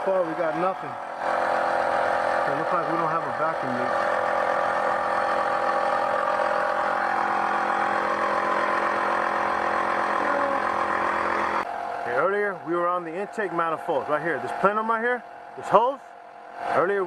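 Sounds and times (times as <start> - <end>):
smoke machine humming: 0.0 - 17.0.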